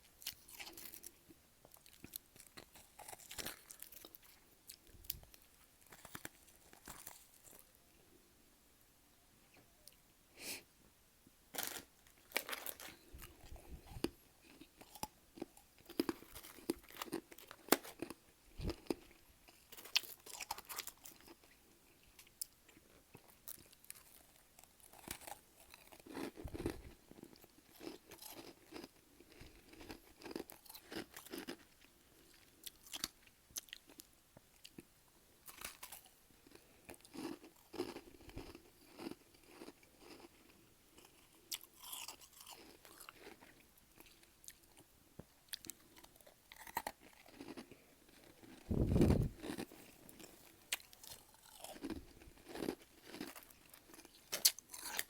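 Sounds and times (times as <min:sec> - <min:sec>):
crunching and chewing frost: 0:00.0 - 0:07.8, 0:11.5 - 0:55.0.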